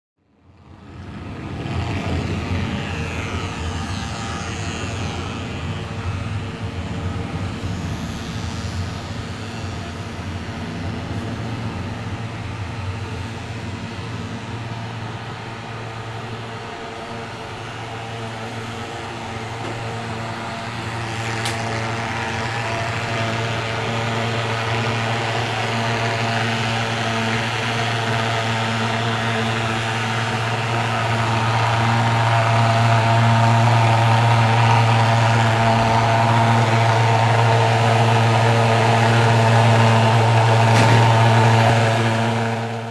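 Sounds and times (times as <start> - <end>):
fogging machine droning: 0.4 - 42.9.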